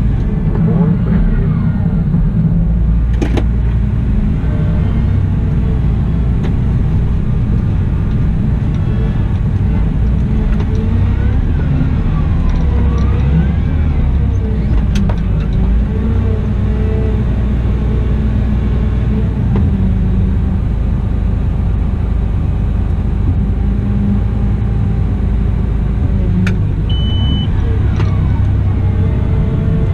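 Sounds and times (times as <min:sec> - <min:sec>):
wheel loader engine droning: 0:00.0 - 0:29.9.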